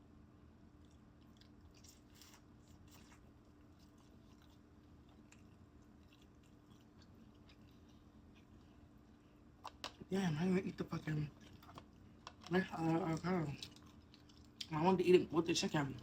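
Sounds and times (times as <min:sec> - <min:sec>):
low steady hum: 0:00.0 - 0:16.0
chewing fried chicken: 0:00.6 - 0:16.0.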